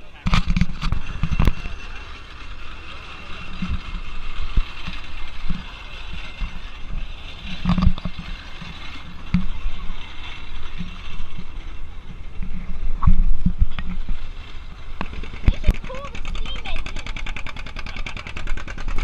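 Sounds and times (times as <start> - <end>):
threshing machine rattling: 0.1 - 19.0.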